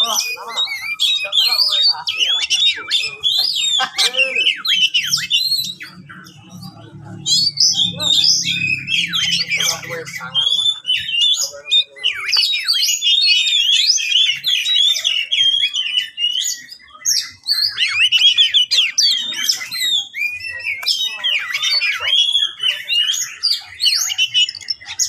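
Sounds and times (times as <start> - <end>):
songbird whistles and trills: 0.0 - 25.0.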